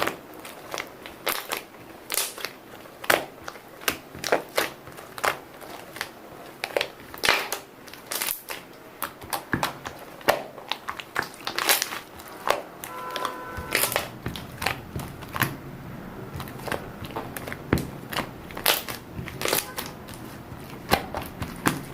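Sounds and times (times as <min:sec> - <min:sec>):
crunching and crinkling: 0:00.0 - 0:21.9.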